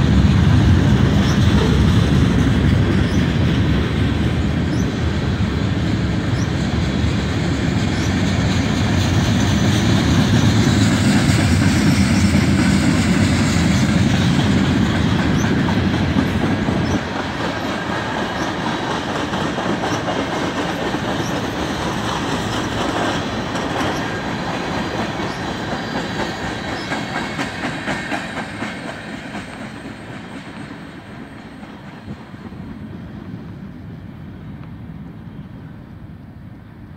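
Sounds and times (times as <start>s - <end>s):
train wheels clicking over rail joints: 0.0s - 35.0s.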